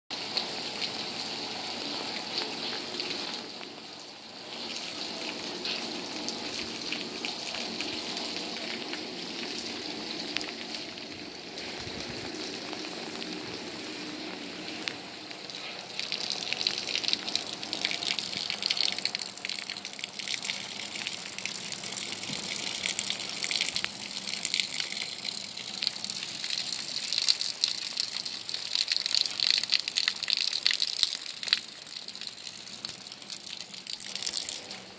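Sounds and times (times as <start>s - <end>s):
raindrops pattering: 0.1s - 34.9s
steady rain: 0.1s - 34.9s
water running over yard: 0.1s - 34.9s.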